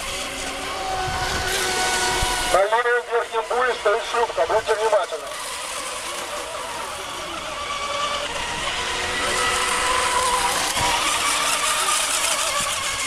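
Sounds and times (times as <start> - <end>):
electric boat motor whine: 0.0 - 13.0.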